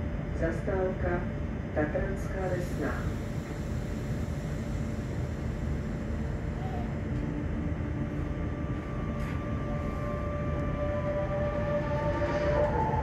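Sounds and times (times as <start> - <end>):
train running equipment hum: 0.0 - 13.0
traction drive whine: 1.3 - 13.0.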